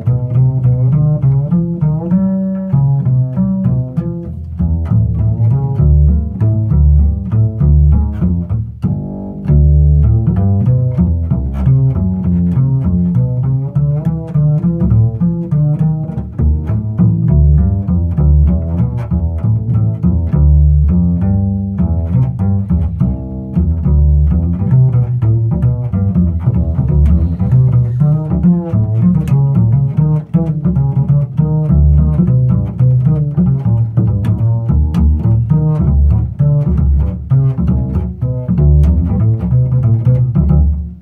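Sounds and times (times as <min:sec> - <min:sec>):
double bass plucked jazz notes: 0:00.0 - 0:41.0.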